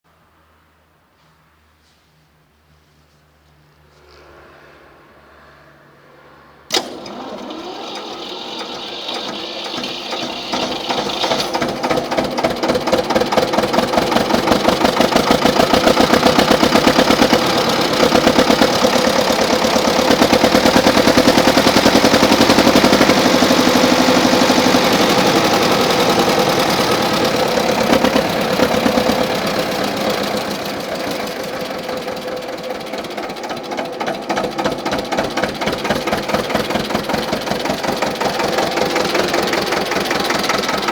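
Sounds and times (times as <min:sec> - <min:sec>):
tractor engine knocking: 0:06.7 - 0:40.9
tractor engine starting bang: 0:06.7 - 0:40.9.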